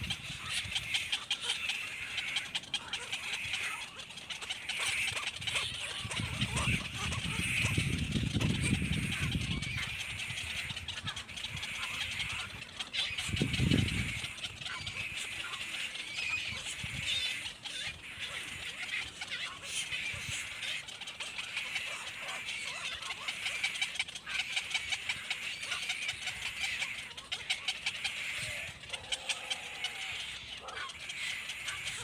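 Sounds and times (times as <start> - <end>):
baby birds chirping: 0.0 - 32.0.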